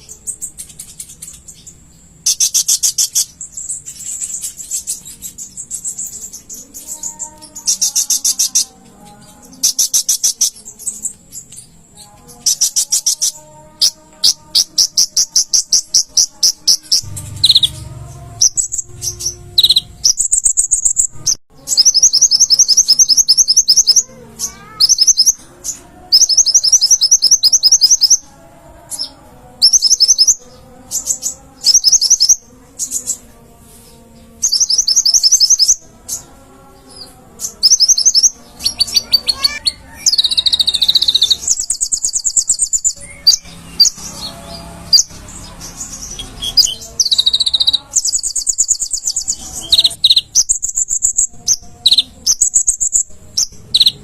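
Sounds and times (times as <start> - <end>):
sunbird singing high trills: 0.0 - 28.3, 28.9 - 33.3, 34.4 - 36.2, 36.9 - 54.0.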